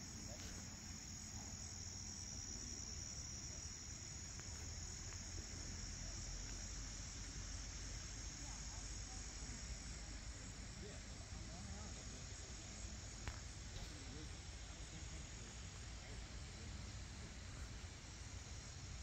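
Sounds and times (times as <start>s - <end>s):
crickets droning: 0.0s - 19.0s.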